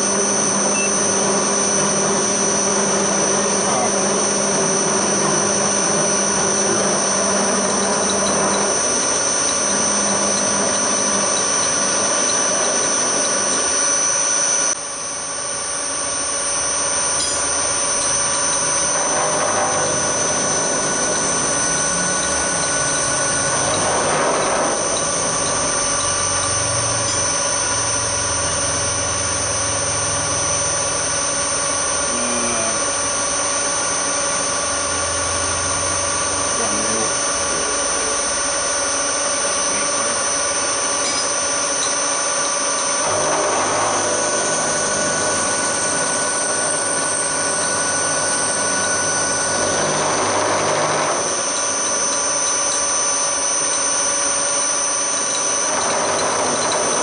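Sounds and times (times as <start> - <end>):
end mill cutting metal: 0.0 - 57.0
milling machine whine: 0.0 - 57.0.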